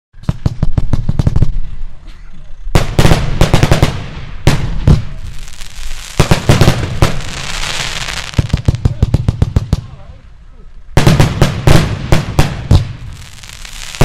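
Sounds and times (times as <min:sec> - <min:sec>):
fireworks cracking and banging: 0:00.2 - 0:01.7, 0:02.7 - 0:10.0, 0:11.0 - 0:14.0.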